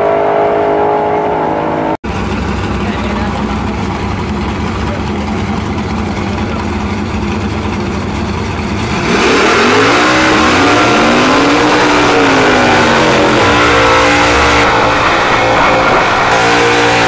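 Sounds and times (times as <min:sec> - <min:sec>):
drag car engines revving: 0:00.0 - 0:17.0.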